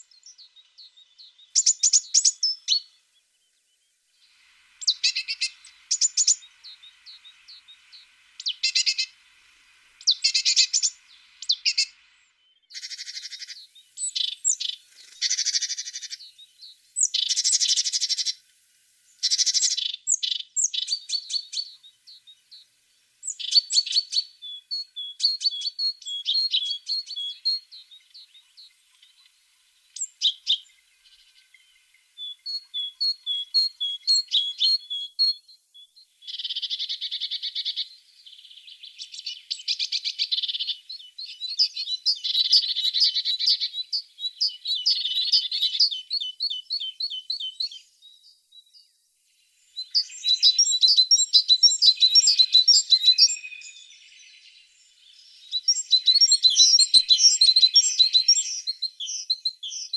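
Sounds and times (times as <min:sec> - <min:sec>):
tits singing: 0:00.0 - 0:48.4, 0:49.5 - 0:59.9.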